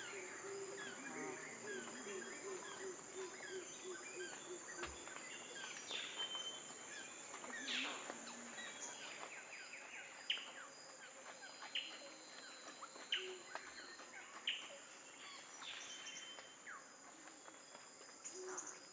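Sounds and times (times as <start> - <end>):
high insect drone: 0.0 - 18.9.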